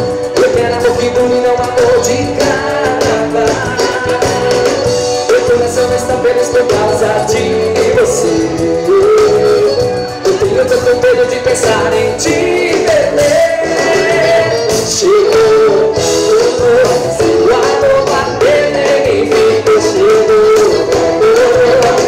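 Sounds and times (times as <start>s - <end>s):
band music with lead singer: 0.0s - 22.0s.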